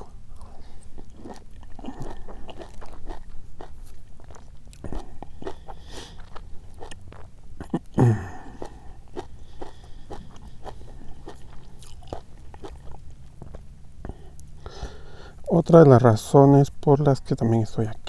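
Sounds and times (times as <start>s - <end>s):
person chewing food: 0.0s - 15.4s.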